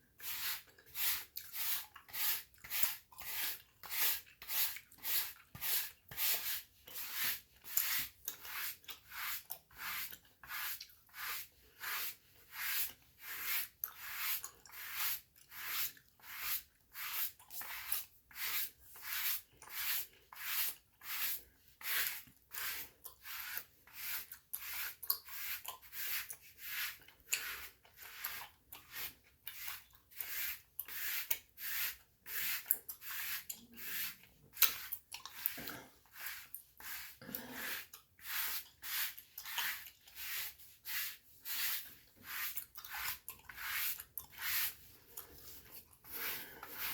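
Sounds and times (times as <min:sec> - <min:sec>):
bristle brush stroking skin: 0:00.2 - 0:46.9.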